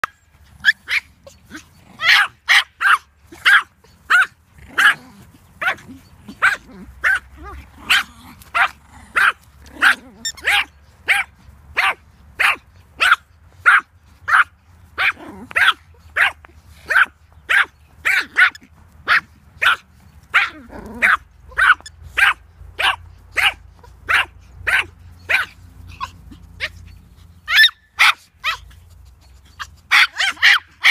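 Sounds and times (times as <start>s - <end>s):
small dog yapping: 0.0s - 28.8s, 29.4s - 30.9s.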